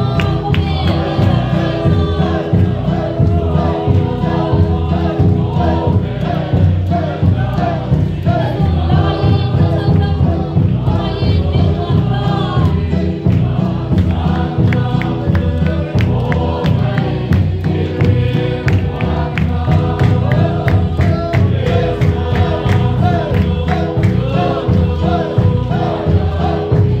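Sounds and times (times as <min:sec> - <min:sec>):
congregation singing a hymn: 0:00.0 - 0:27.0
large drum beating: 0:00.0 - 0:27.0.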